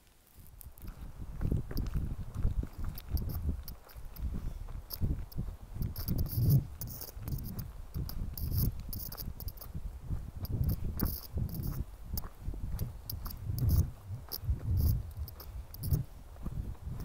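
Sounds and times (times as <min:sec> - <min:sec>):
footsteps on dirt trail: 0:00.0 - 0:17.0.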